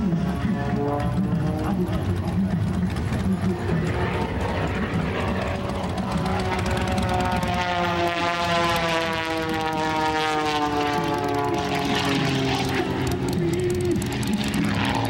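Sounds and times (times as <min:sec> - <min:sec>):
propeller plane engine at full power: 0:00.0 - 0:15.0.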